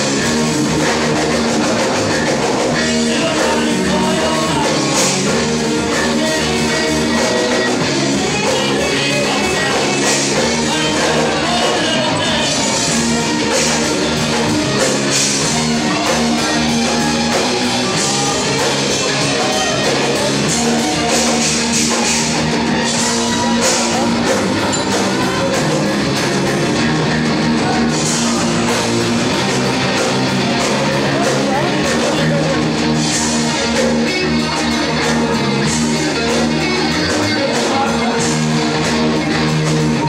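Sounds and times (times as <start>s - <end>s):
live hard rock band: 0.0s - 40.0s.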